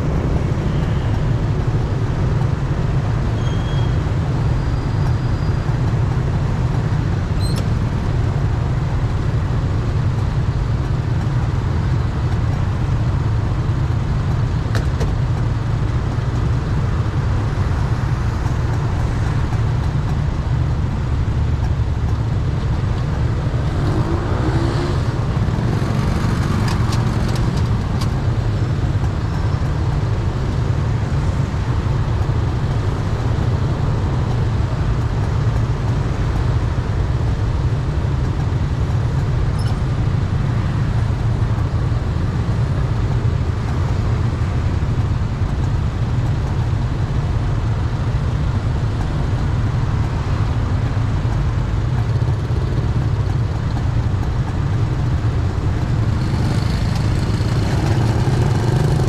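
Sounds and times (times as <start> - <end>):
street traffic rumble: 0.0 - 59.0.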